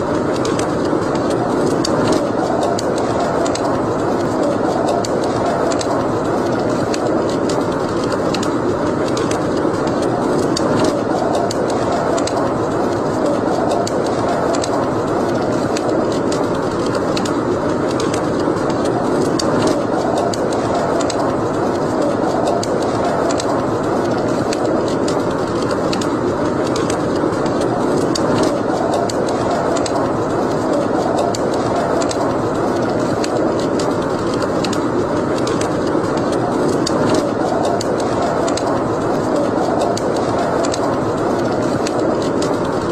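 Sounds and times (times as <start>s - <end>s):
fire crackling and popping: 0.0s - 42.9s
rush of flame: 0.0s - 42.9s.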